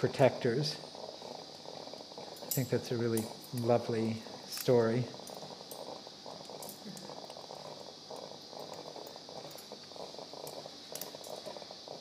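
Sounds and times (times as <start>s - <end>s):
operating room hiss: 0.0s - 12.0s.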